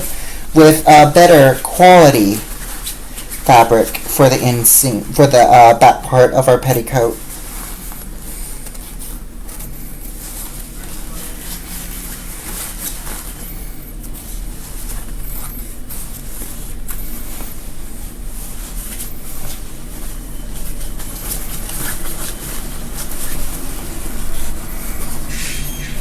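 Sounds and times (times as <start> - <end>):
fabric rustling and crackling: 0.0 - 26.0
low electrical hum: 0.0 - 26.0.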